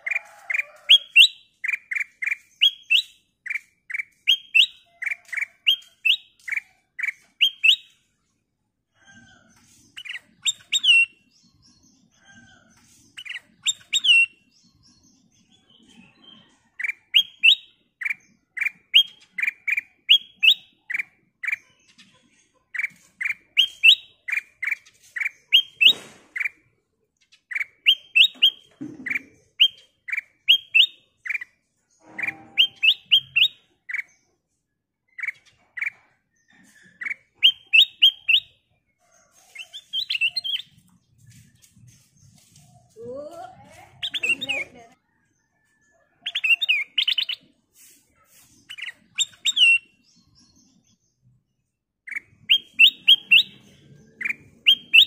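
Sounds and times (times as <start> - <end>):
bulbul singing: 0.0 - 8.1, 9.9 - 11.9, 13.1 - 26.7, 27.3 - 34.3, 35.1 - 38.7, 39.5 - 44.9, 48.6 - 51.0, 52.0 - 55.0.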